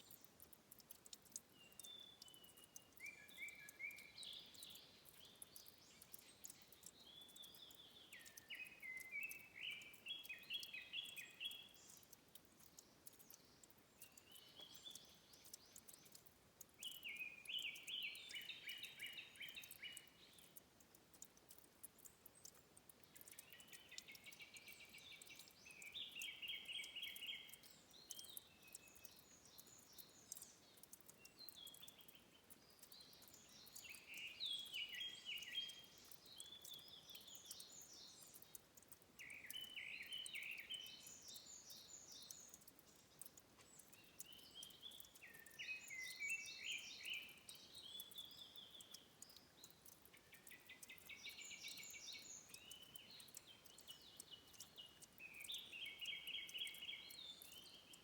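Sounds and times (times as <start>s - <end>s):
soft background hiss: 0.0s - 58.0s
songbird chirping: 0.0s - 58.0s.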